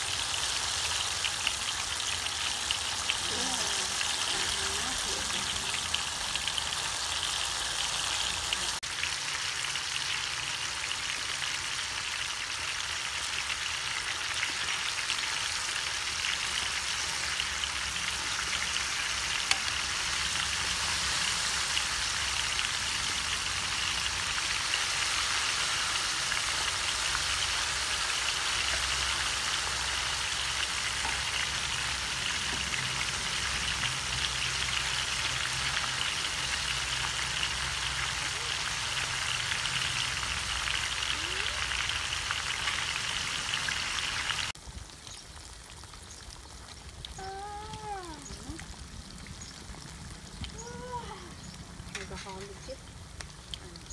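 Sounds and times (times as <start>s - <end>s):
food deep-frying in oil: 0.0s - 53.9s.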